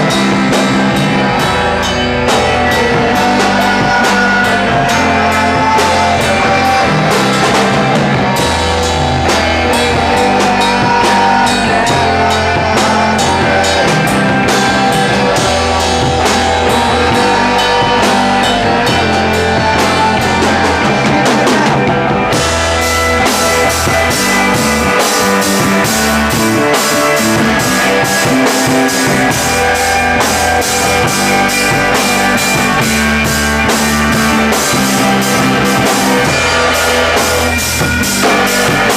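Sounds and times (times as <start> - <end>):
rock music with drums and guitar: 0.0 - 38.9.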